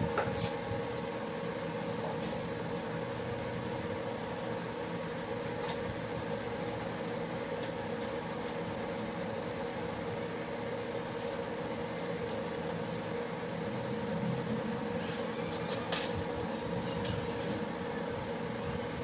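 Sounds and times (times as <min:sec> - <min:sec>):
cooktop fan humming: 0:00.0 - 0:19.0.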